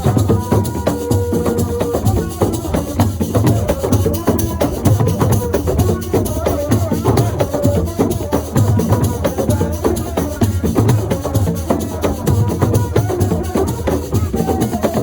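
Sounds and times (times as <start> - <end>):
hand drum and shaker percussion: 0.0 - 15.0.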